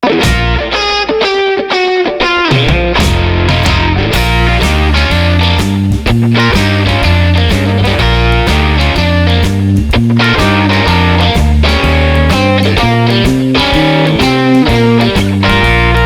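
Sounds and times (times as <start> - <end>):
pitched music notes: 0.0 - 16.0
steady beat with low bass: 2.9 - 16.0.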